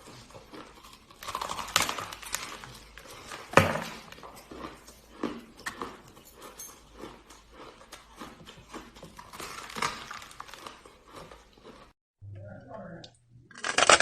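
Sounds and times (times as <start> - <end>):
ice being chewed: 0.0 - 12.0.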